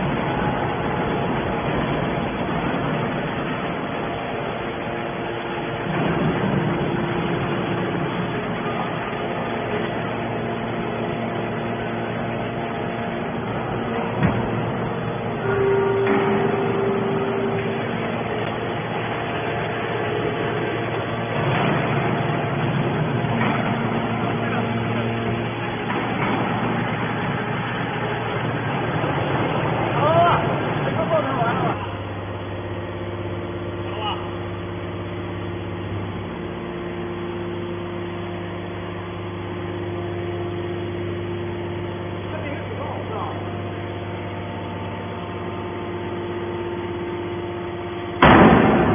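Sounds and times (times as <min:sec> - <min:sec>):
can baler machine running: 0:00.0 - 0:48.9.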